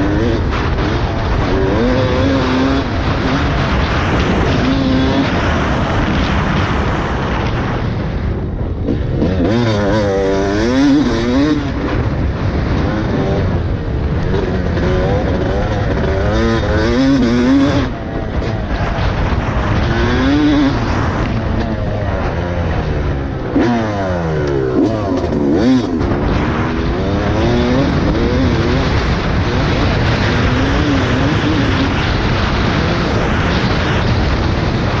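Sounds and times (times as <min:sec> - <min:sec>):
dirt bike engine revving: 0:00.0 - 0:35.0
wind noise: 0:00.0 - 0:35.0.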